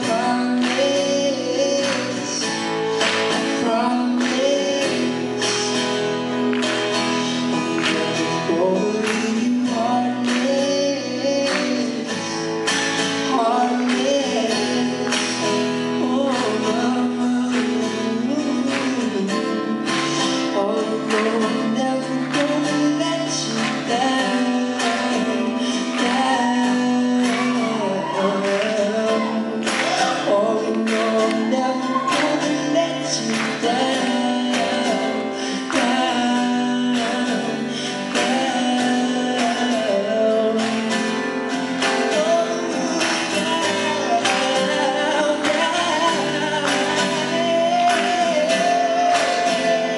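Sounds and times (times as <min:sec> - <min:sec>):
acoustic guitars strumming: 0:00.0 - 0:49.9
man singing: 0:00.0 - 0:49.9.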